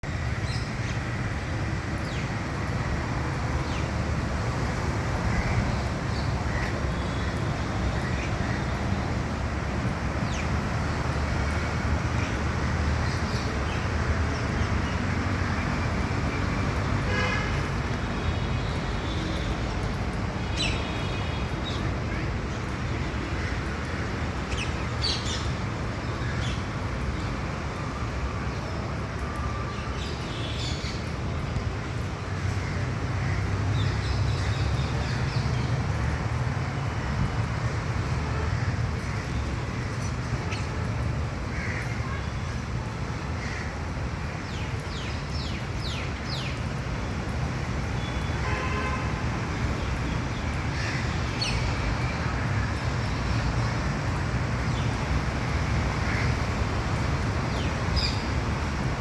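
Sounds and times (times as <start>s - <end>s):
low traffic rumble: 0.0s - 59.0s.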